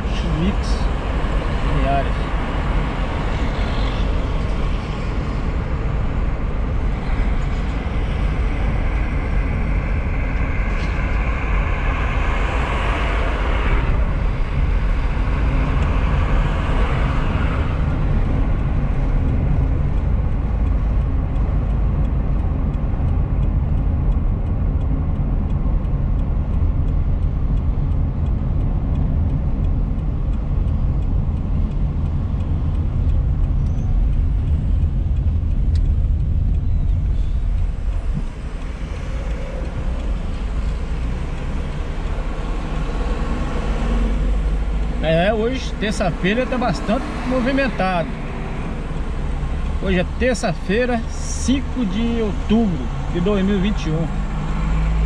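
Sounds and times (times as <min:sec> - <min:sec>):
car cabin road noise rumble: 0:00.0 - 0:55.0.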